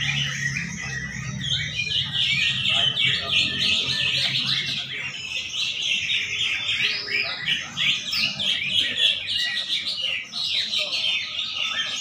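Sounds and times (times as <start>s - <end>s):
many birds chirping and trilling: 0.0s - 12.0s.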